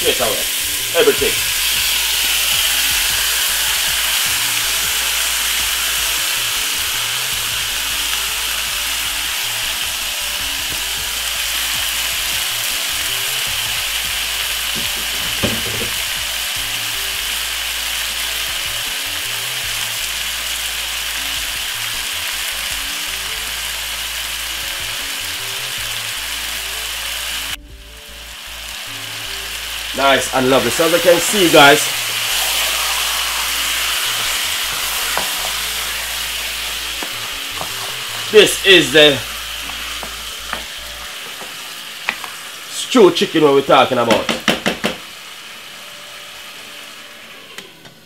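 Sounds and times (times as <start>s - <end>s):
chicken sizzling in a pot: 0.0s - 48.0s.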